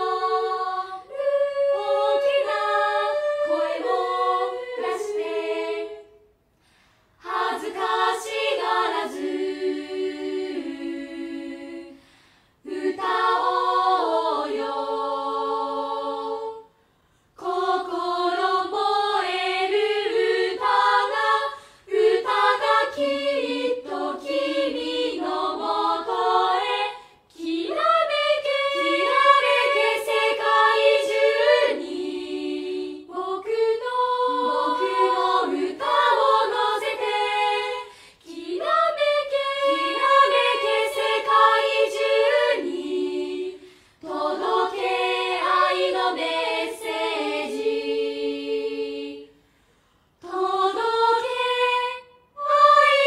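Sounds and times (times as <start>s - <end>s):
choir singing a cappella: 0.0s - 53.0s.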